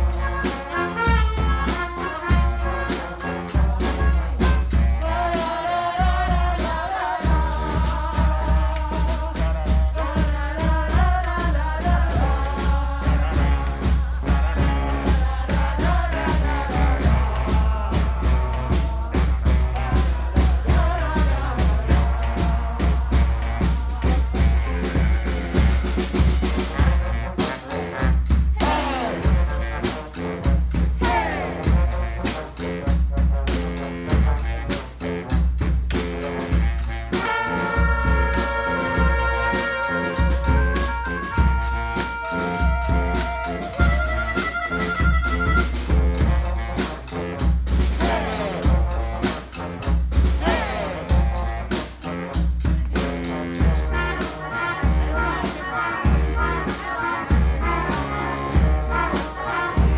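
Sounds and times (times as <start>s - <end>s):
brass band playing: 0.0s - 59.9s
drum kit: 0.0s - 59.9s.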